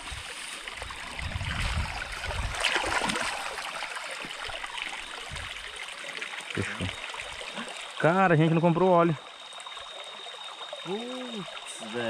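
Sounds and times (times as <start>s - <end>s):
creek water flowing and trickling: 0.0s - 12.0s.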